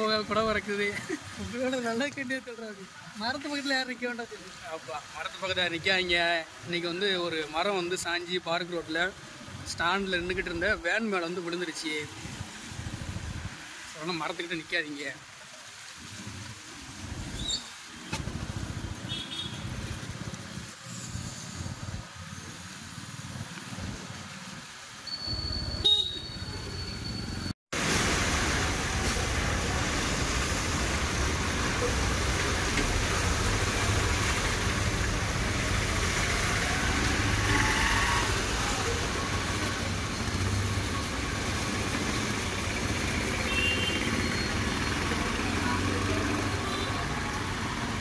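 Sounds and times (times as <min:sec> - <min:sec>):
heavy rain hissing: 0:00.0 - 0:48.0
vehicles passing on wet road: 0:00.0 - 0:48.0.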